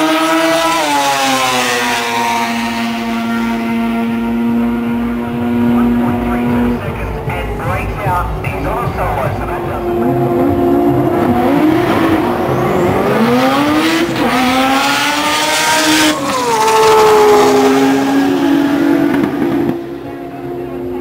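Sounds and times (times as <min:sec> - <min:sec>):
race car engines accelerating hard: 0:00.0 - 0:21.0.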